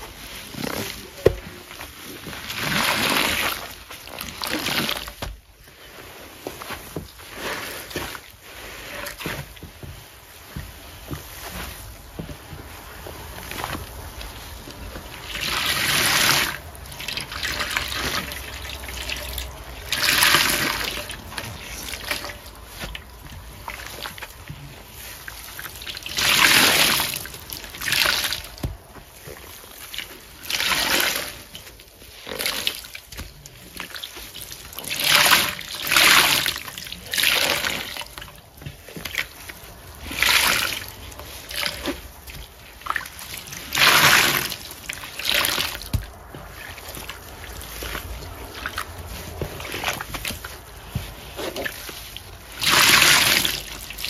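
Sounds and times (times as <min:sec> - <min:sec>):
wet paste squelching: 0:00.0 - 0:54.0.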